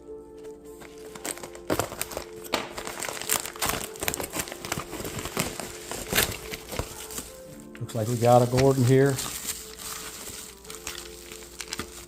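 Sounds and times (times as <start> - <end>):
packaging crinkling: 0.4 - 12.0.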